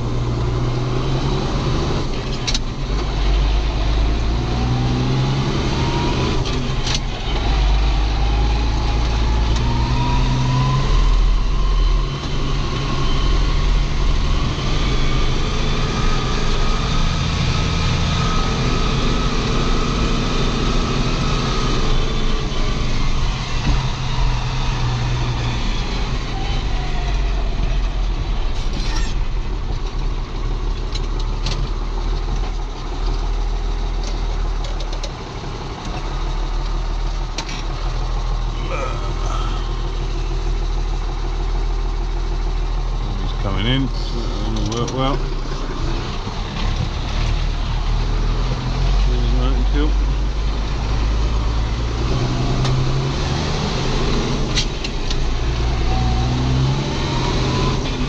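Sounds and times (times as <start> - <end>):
diesel tractor engine working hard: 0.0 - 58.0.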